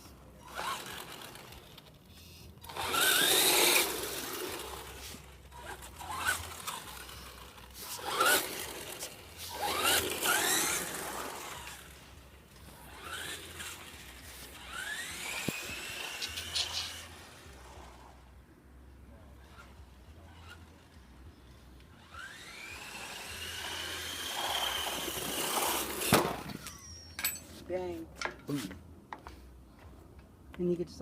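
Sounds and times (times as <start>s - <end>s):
rc car motor whining: 0.0s - 18.4s, 19.3s - 27.0s
tyre and ground noise: 0.0s - 31.0s.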